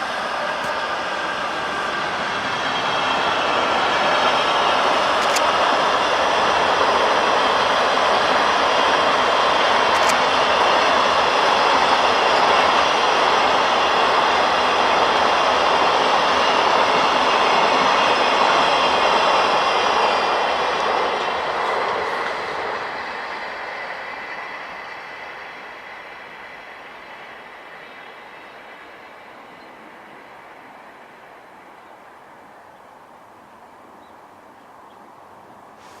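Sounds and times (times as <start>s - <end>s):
train wheels rumbling on rails: 0.0s - 32.8s.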